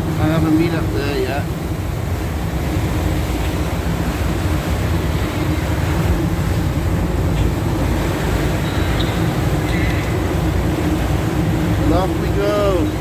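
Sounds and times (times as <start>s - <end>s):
boat engine rumbling: 0.0s - 13.0s
wind buffeting microphone: 0.0s - 13.0s.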